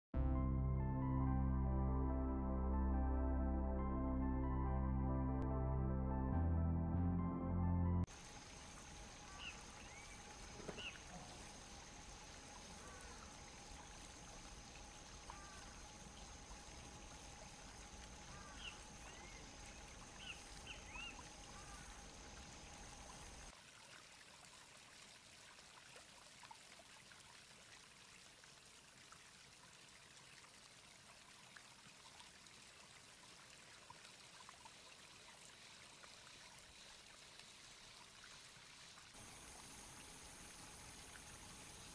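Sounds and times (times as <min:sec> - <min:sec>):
soft steady hiss: 0:08.1 - 0:41.9.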